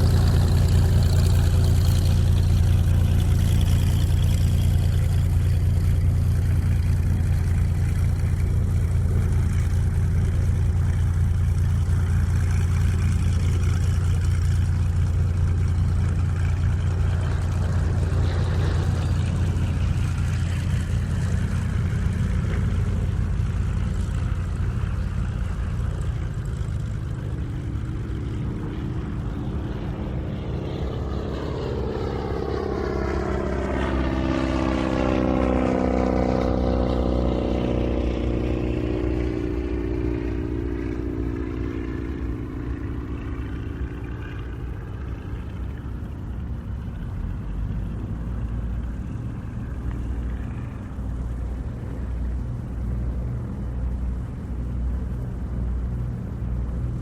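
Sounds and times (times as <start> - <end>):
airplane flying past: 0.0 - 57.0
low rumble: 0.0 - 57.0.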